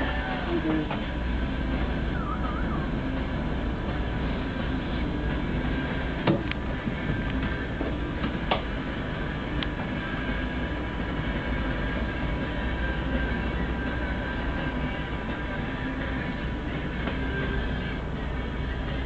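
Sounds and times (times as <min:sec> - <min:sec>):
boat engine rumble: 0:00.0 - 0:19.0
faint steady whine: 0:00.0 - 0:19.0.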